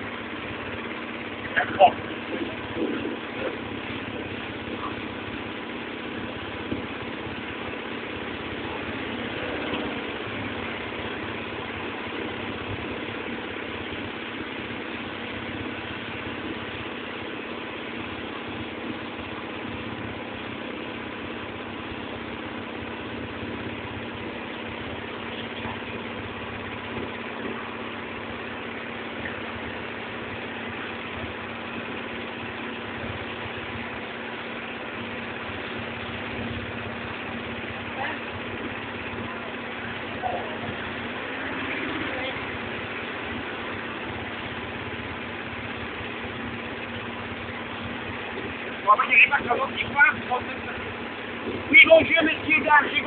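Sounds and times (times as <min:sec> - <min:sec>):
boat engine running: 0:00.0 - 0:53.0.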